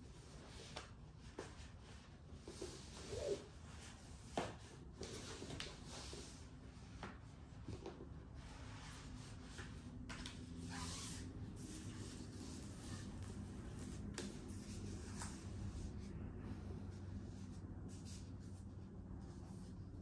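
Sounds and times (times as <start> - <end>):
cloth rubbing and swishing: 0.1 - 20.0.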